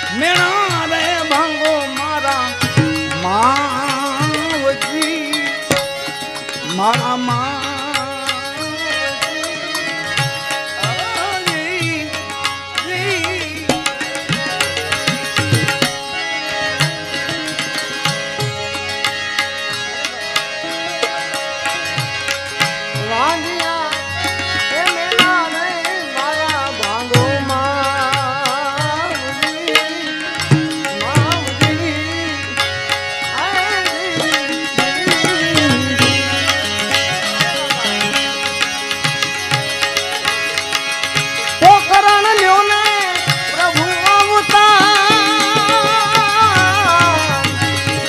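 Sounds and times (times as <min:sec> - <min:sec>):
harmonium drone and melody: 0:00.0 - 0:48.0
percussion beat: 0:00.0 - 0:48.0.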